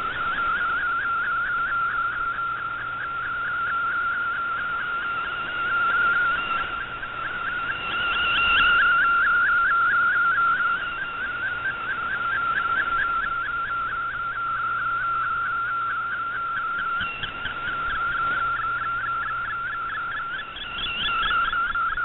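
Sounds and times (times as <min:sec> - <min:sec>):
radio hiss: 0:00.0 - 0:22.0
whistling tone with upward chirps: 0:00.0 - 0:22.0.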